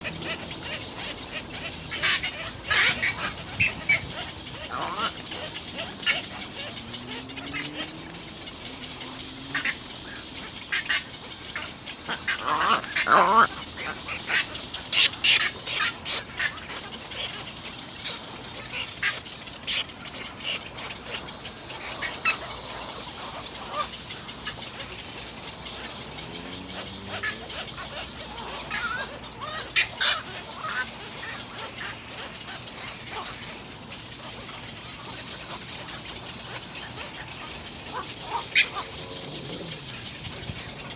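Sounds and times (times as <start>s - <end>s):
egrets calling: 0.0s - 40.9s.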